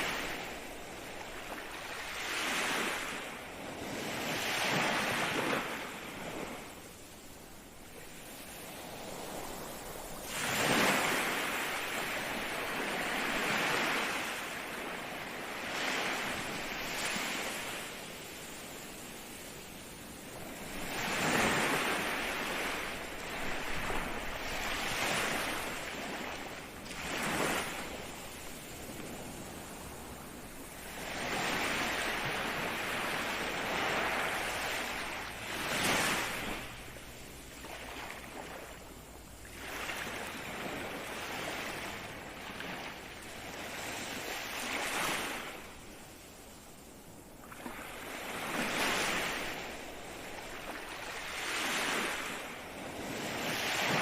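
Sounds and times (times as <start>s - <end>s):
ocean waves breaking: 0.0s - 46.0s, 47.1s - 54.0s.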